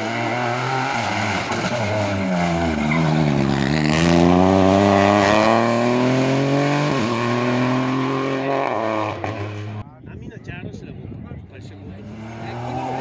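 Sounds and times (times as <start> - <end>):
rally car engine accelerating: 0.0 - 9.8, 12.0 - 13.0.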